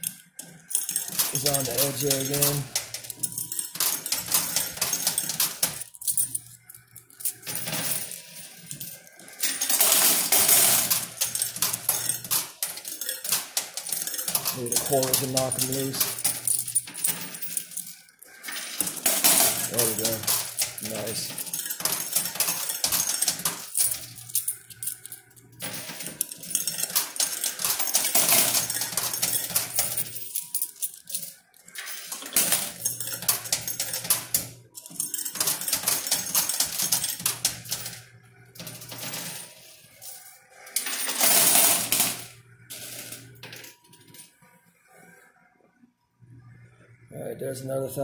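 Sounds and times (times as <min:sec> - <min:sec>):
coins clinking and clattering: 0:00.0 - 0:44.3.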